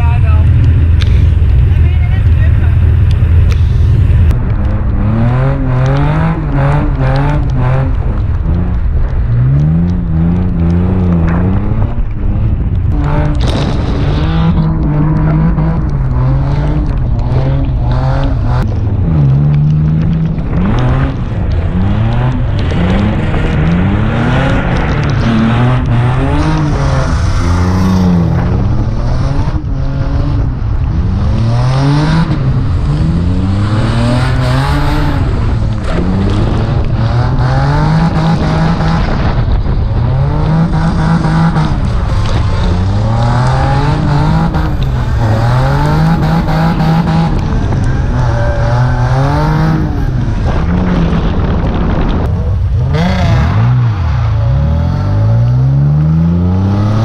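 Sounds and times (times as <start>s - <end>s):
road noise: 0.0s - 57.0s
wind rushing: 2.7s - 55.3s
car engine revving hard: 5.0s - 8.8s, 12.9s - 57.0s.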